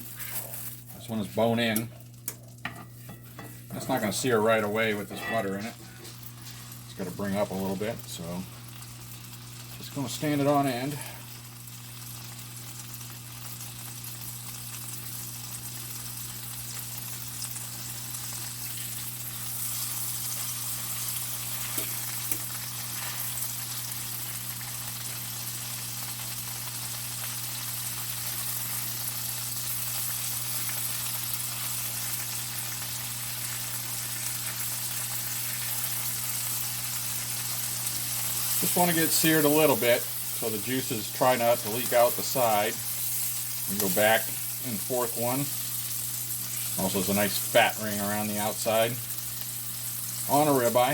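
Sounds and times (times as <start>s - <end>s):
steak sizzling in a skillet: 0.0s - 50.9s.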